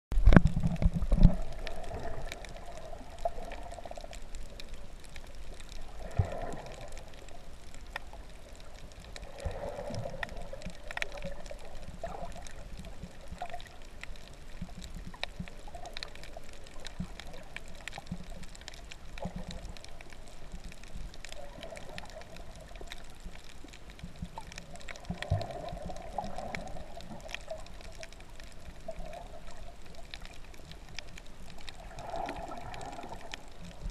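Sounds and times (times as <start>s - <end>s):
muffled underwater water rush: 0.1s - 33.9s
faint clicks: 0.2s - 33.9s.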